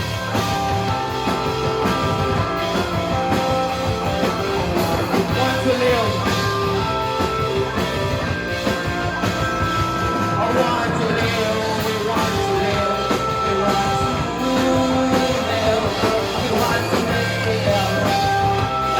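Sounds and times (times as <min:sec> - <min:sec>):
bass guitar: 0:00.0 - 0:18.9
drum beat: 0:00.0 - 0:18.9
electric guitar notes: 0:00.0 - 0:18.9.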